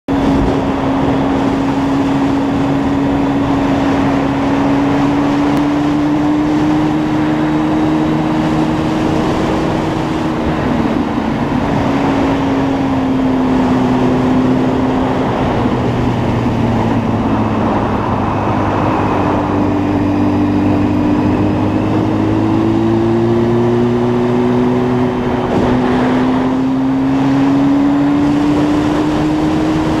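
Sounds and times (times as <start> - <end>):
motorcycle engine running: 0.1 - 30.0
wind rush on microphone: 0.1 - 30.0.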